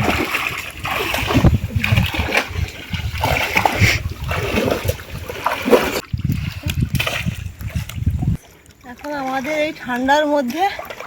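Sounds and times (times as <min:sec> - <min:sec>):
river water splashing: 0:00.0 - 0:11.0.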